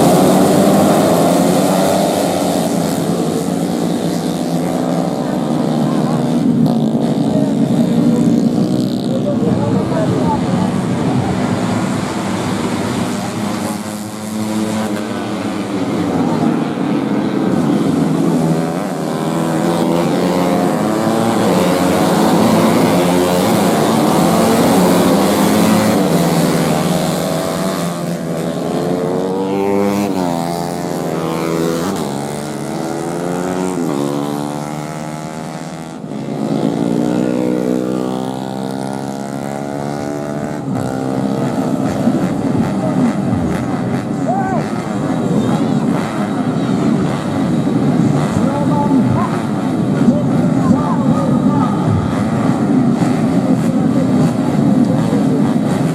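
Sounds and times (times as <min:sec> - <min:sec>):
racing motorcycles at full throttle: 0:00.0 - 0:55.9.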